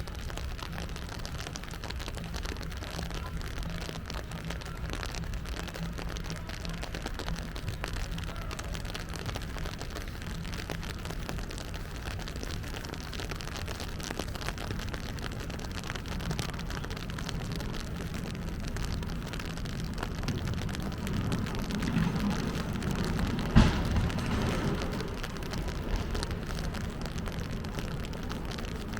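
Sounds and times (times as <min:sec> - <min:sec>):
low rumble: 0:00.0 - 0:28.9
rain pattering: 0:00.0 - 0:28.9.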